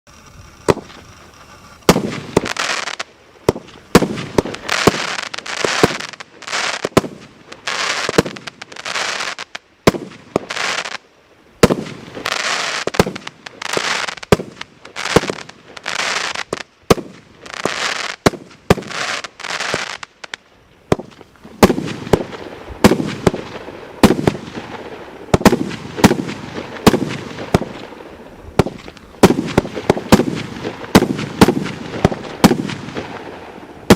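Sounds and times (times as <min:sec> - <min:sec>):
firework bangs: 0:00.1 - 0:11.0, 0:11.6 - 0:20.3, 0:20.9 - 0:33.9
hissing crackling firework bursts: 0:00.1 - 0:33.9.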